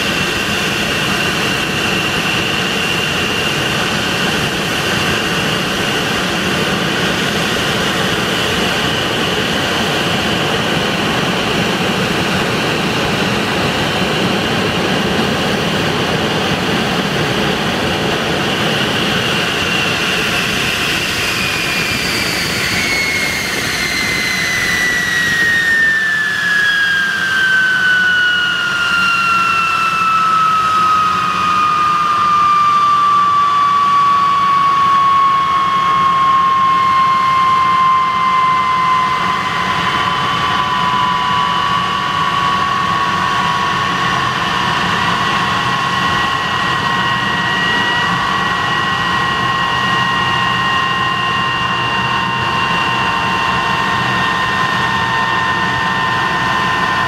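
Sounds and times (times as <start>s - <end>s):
jet engine roar with high whine: 0.0s - 57.0s.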